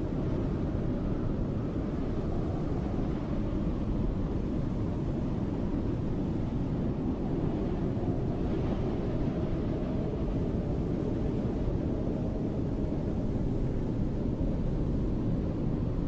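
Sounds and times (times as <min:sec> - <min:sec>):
snowstorm wind blowing: 0:00.0 - 0:16.0.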